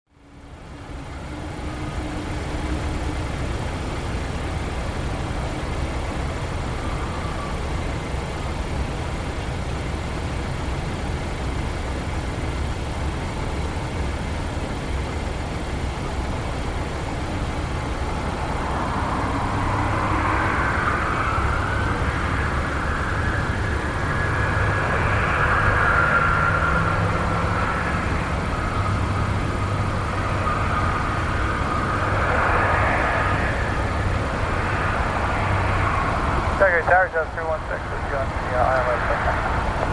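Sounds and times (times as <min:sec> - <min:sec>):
jet engine whine: 0:00.1 - 0:39.9
jet engines rumbling: 0:00.2 - 0:39.9.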